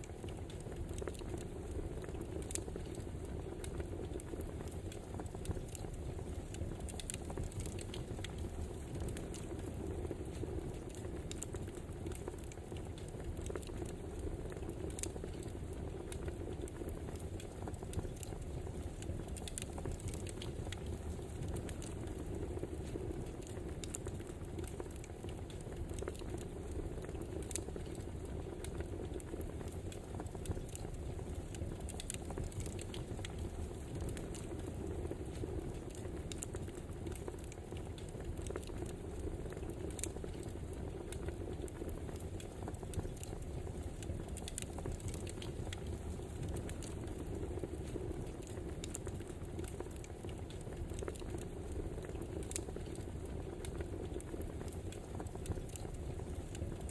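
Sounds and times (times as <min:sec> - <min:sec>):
fire pops and snaps: 0:00.0 - 0:56.9
wood fire burning: 0:00.0 - 0:56.9.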